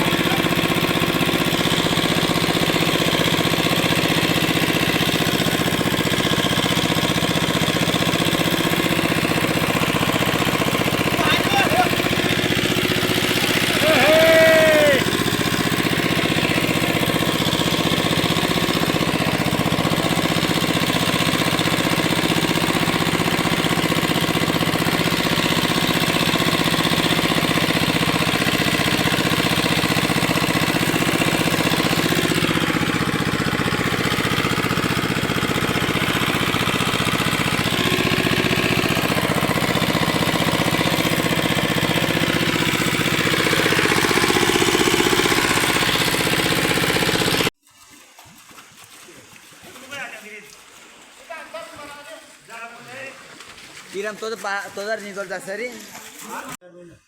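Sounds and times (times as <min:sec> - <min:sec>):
small engine running: 0:00.0 - 0:56.6.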